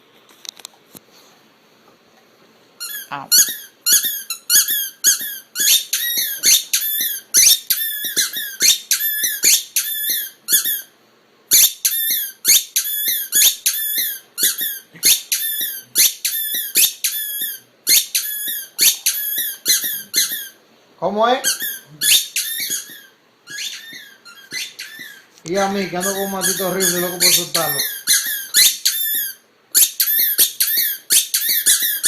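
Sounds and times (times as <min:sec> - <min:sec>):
small animal squeaky chirps: 0:02.8 - 0:10.9, 0:11.5 - 0:20.6, 0:21.5 - 0:32.0.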